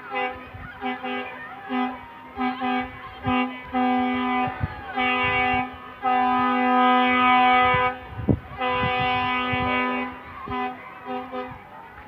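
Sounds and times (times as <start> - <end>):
horn blasts: 0.0 - 11.6.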